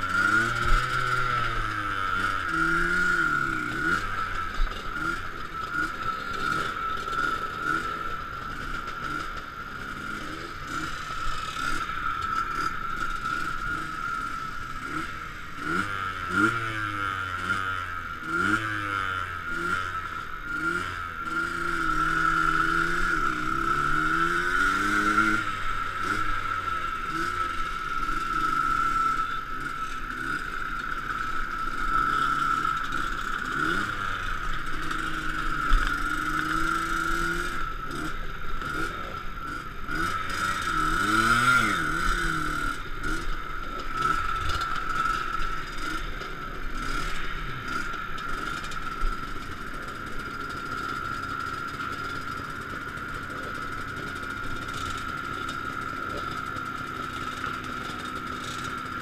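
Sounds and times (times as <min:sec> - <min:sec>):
motorcycle engines revving: 0:00.0 - 0:59.0
steady high whine: 0:00.0 - 0:59.0.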